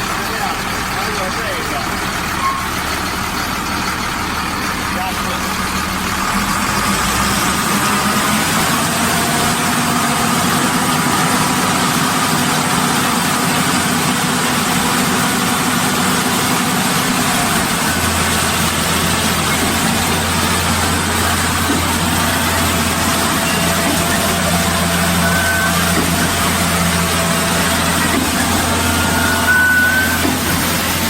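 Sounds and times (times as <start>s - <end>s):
pump engine running: 0.0s - 31.0s.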